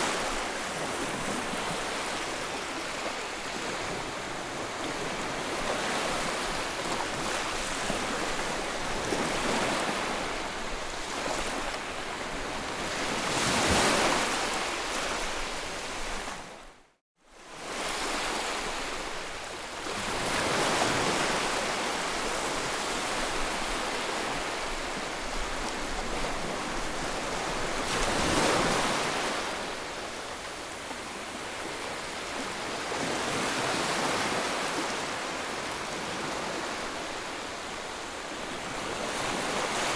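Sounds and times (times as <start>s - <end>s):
ocean waves washing on shore: 0.0s - 39.9s.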